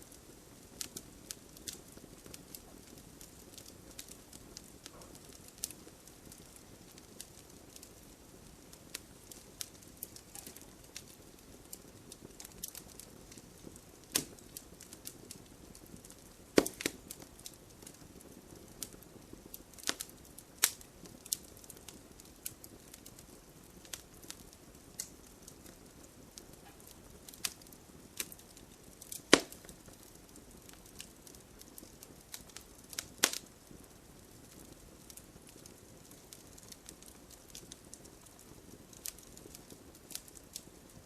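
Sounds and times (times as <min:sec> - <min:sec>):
campfire crackling and popping: 0:00.0 - 0:41.0
low steady hiss: 0:00.0 - 0:41.0.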